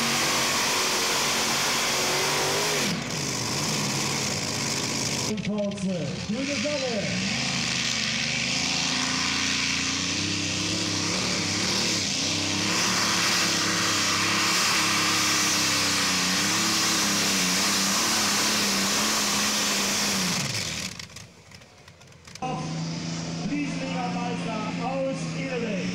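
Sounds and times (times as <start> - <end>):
tractor racing engine at full throttle: 0.0 - 25.9.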